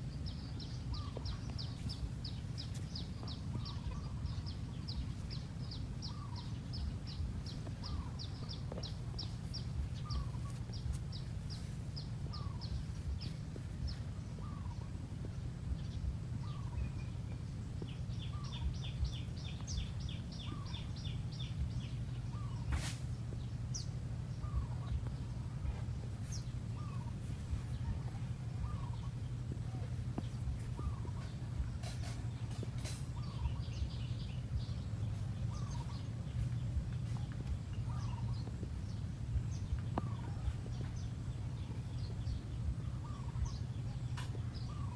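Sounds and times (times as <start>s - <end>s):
birds calling: 0.0s - 44.9s
steady low rumble: 0.0s - 44.9s.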